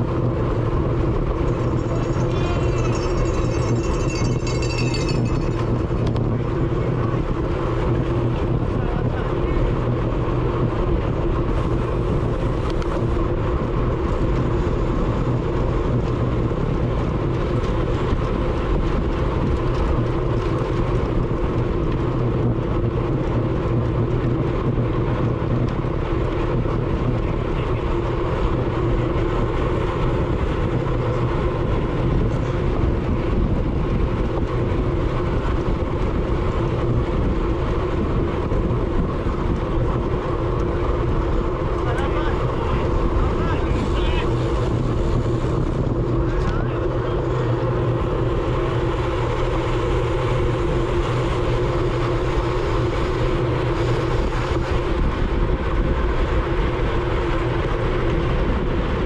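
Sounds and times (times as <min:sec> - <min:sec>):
road noise: 0:00.0 - 0:59.0
wind rush: 0:00.0 - 0:59.0.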